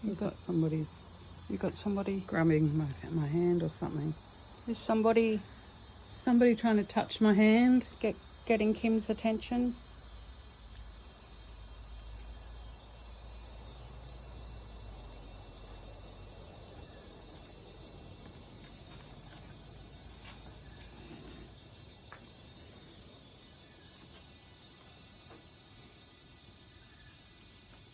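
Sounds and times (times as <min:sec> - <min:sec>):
insects trilling: 0:00.0 - 0:27.9.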